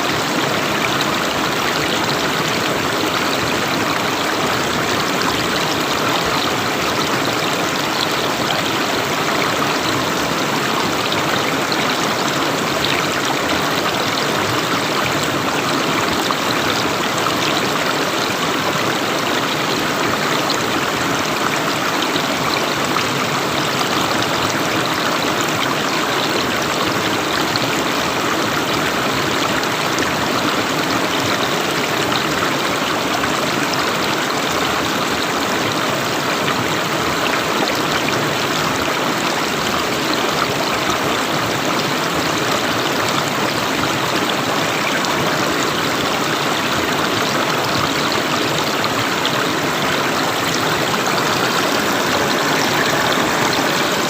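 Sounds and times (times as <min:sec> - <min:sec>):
river water rushing over stones: 0:00.0 - 0:54.0.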